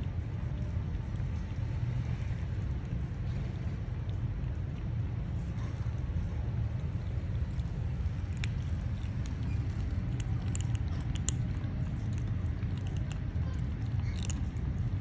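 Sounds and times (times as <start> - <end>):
kitten chewing food: 0.0 - 15.0
steady low rumble: 0.0 - 15.0.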